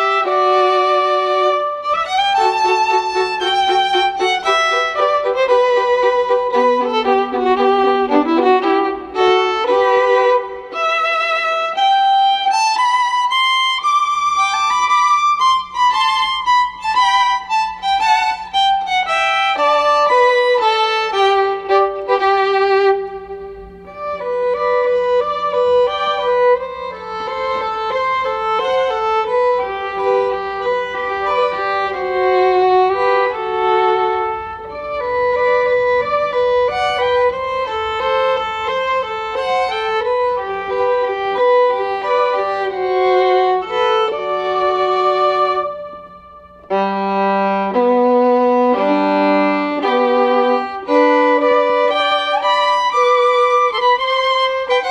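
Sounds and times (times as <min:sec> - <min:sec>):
violin melody with vibrato: 0:00.0 - 0:54.9.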